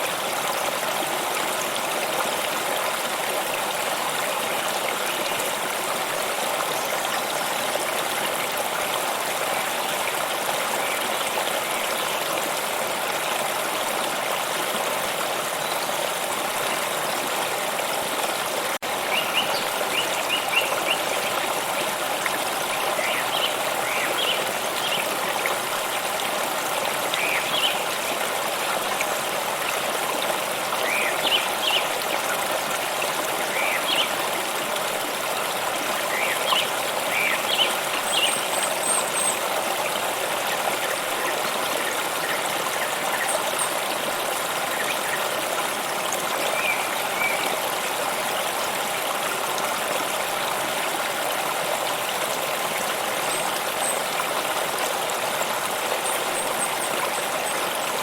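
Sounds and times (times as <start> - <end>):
stream of water trickling: 0.0 - 58.0.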